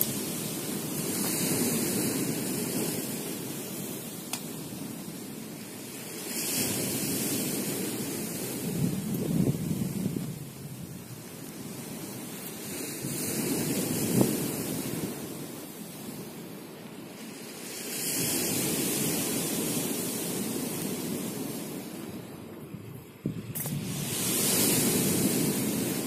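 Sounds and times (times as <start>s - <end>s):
waves on pebble beach: 0.0s - 26.0s
wind on microphone: 0.0s - 26.0s.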